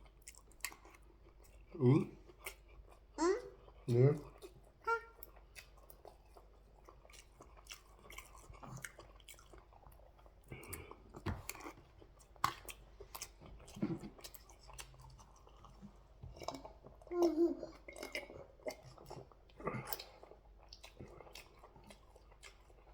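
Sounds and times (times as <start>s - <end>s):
person chewing food: 0.0s - 22.9s.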